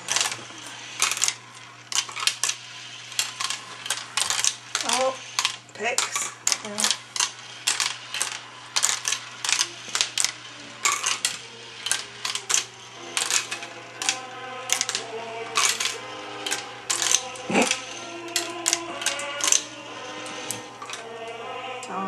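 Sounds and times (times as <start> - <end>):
marbles clattering on plastic: 0.0 - 21.2.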